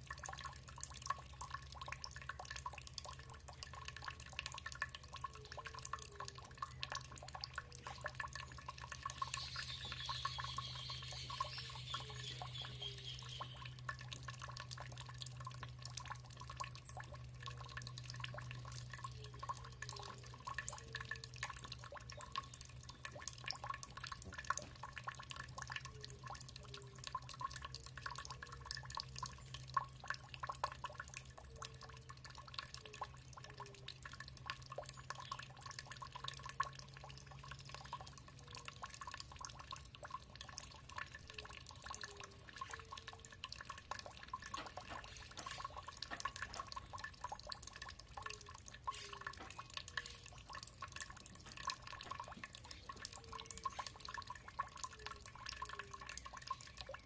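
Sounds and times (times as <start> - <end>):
water dripping and trickling: 0.0 - 57.0.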